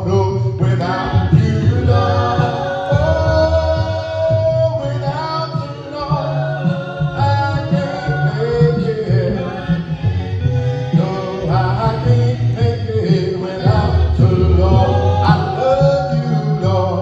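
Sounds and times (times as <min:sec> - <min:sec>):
congregation singing a hymn: 0:00.0 - 0:17.0.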